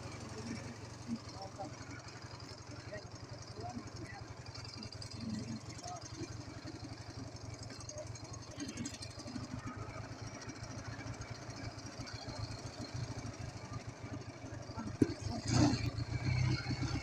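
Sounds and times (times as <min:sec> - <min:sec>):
motorcycle engine chugging: 0:00.0 - 0:17.0.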